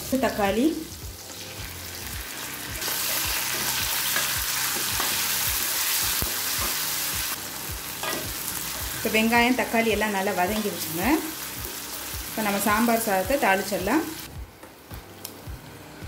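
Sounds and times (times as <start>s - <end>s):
vegetables sizzling in hot oil: 0.1s - 14.3s.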